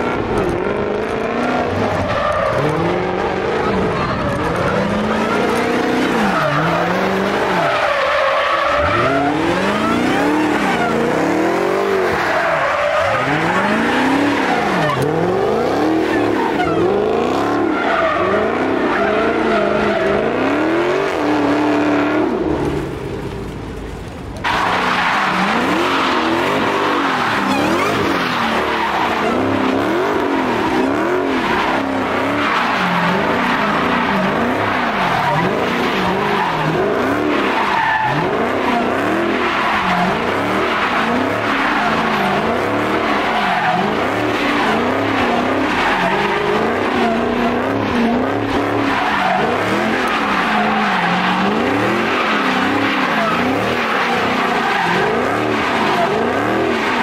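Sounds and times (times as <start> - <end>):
car engine revving: 0.0 - 23.6, 24.4 - 57.0
tyres squealing: 1.2 - 20.6, 24.5 - 57.0.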